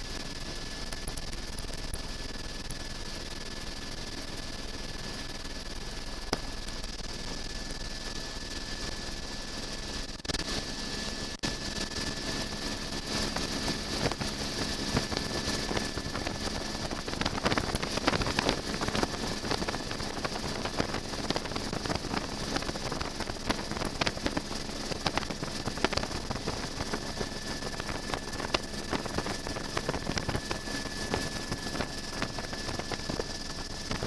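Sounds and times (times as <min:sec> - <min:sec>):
helicopter engine and rotor drone: 0:00.0 - 0:34.0.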